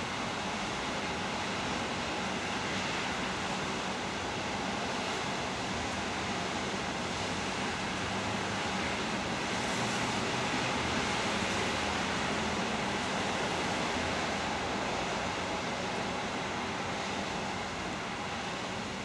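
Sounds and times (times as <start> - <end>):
city background roar: 0.0 - 19.0.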